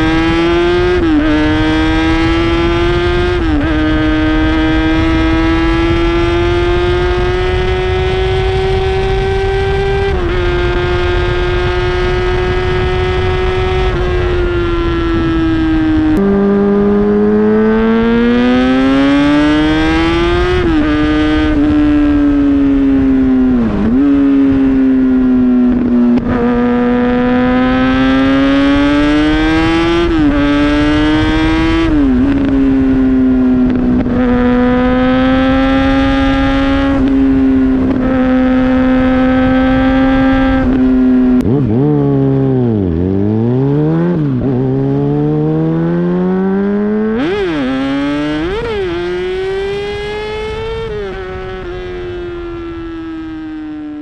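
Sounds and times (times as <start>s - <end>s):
sport bike engine revving: 0.0s - 54.0s.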